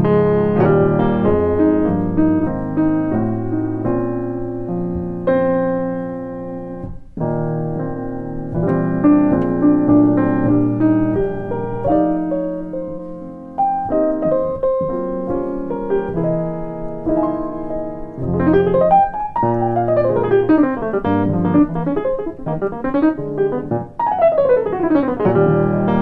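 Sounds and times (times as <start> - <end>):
grand piano playing: 0.0 - 26.0.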